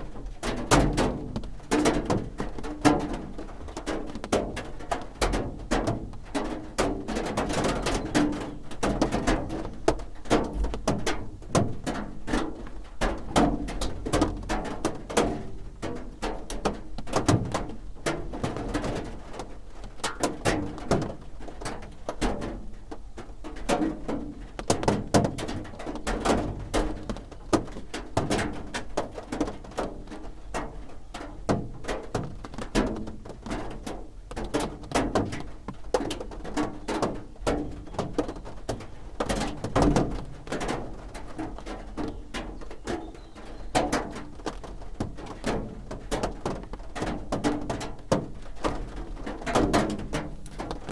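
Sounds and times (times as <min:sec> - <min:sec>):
rain drumming on a roof: 0:00.0 - 0:50.9.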